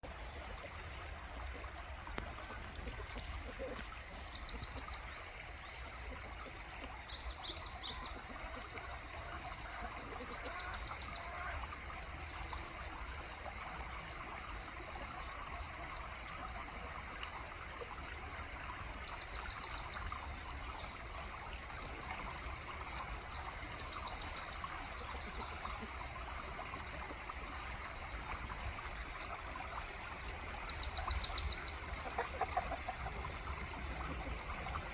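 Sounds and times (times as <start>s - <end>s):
flowing stream: 0.0s - 34.9s.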